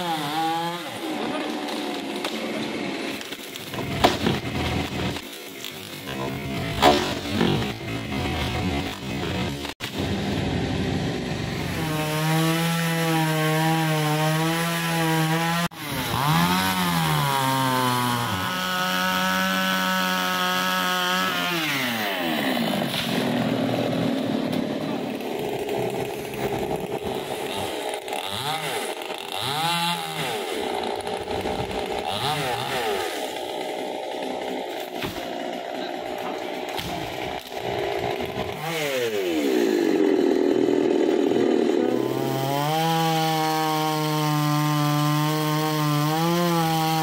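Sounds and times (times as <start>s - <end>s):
chainsaw cutting into trunk: 0.0s - 47.0s.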